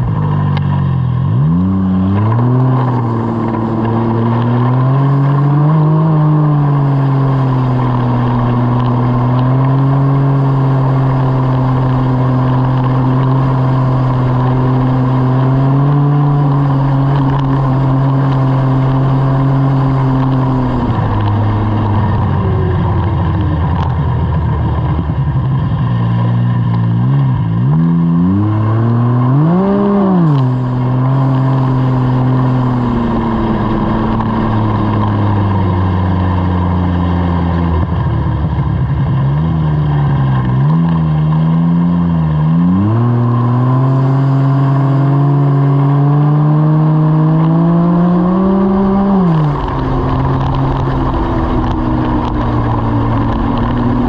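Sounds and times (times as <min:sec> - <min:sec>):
track noise: 0:00.0 - 0:45.4, 0:47.0 - 0:54.0
snowmobile engine revving: 0:00.6 - 0:23.5, 0:26.2 - 0:37.8, 0:39.1 - 0:54.0.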